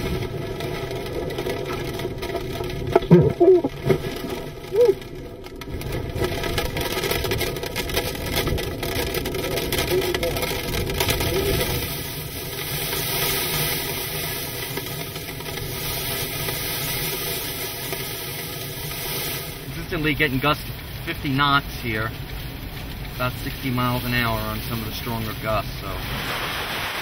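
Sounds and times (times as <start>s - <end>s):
rain driving against a vehicle: 0.0s - 27.0s.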